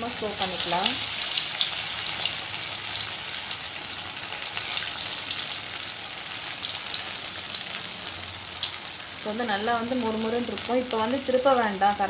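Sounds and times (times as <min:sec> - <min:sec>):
potato deep-frying in oil: 0:00.0 - 0:12.0.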